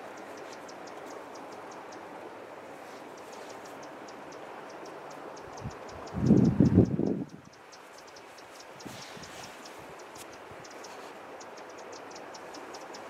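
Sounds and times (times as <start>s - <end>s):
thin high ticking: 0.0s - 13.0s.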